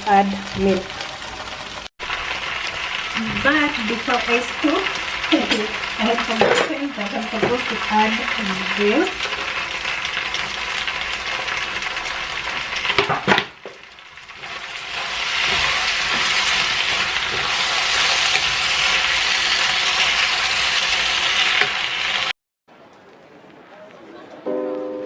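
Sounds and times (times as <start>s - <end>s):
chicken sizzling in a frying pan: 0.0s - 22.4s.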